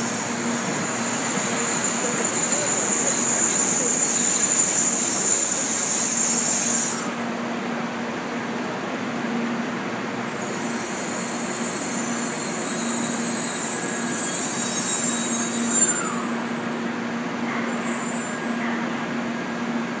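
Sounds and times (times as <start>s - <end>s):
train brakes and wheels hissing: 0.0s - 7.5s, 10.1s - 20.0s.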